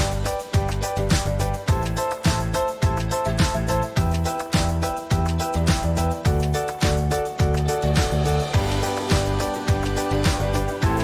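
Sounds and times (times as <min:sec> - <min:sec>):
held instrumental notes: 0:00.0 - 0:11.0
thumping bass drum: 0:00.0 - 0:11.0.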